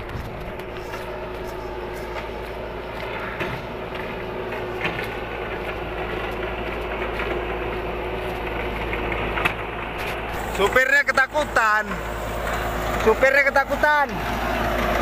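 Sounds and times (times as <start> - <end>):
truck engines straining: 0.0 - 15.0.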